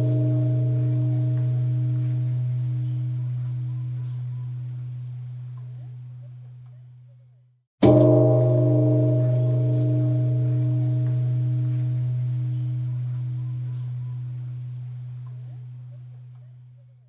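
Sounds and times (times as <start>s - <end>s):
temple bell ringing: 0.0s - 6.0s, 7.8s - 16.4s.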